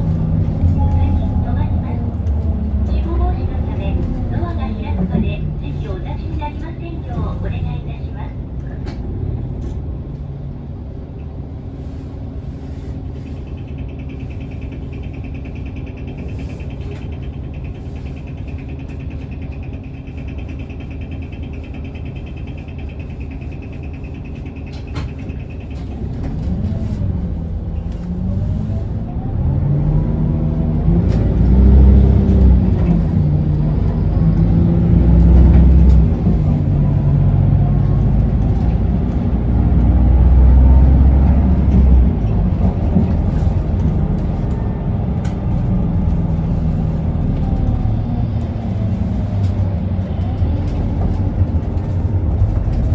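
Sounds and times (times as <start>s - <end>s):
bus diesel engine rumble: 0.0s - 52.9s.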